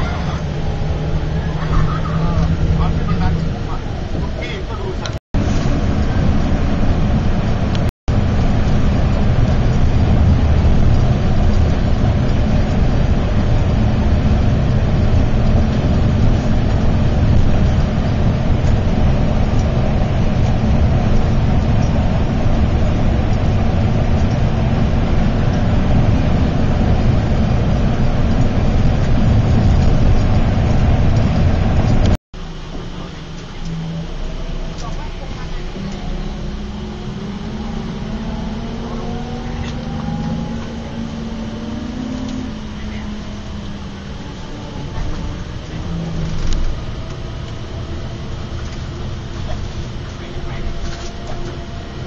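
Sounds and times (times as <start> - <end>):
bus engine rumble: 0.0 - 52.0
road noise: 0.0 - 52.0.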